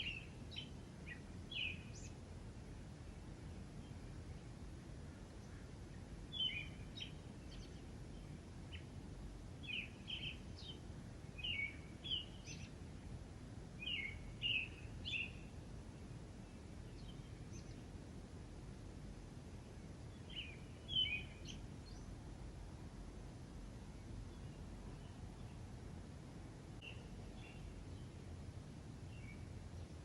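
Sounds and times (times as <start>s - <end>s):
small birds chirping: 0.0s - 18.2s, 19.4s - 25.8s, 26.8s - 30.0s.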